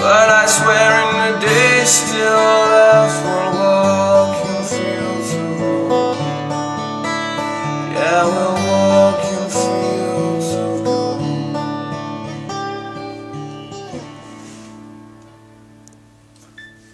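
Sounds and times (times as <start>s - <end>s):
acoustic guitar chords: 0.0s - 16.9s.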